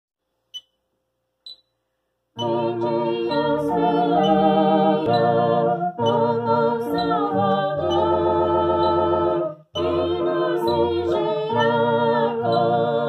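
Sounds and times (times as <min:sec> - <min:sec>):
electronic organ chords: 0:02.4 - 0:13.0.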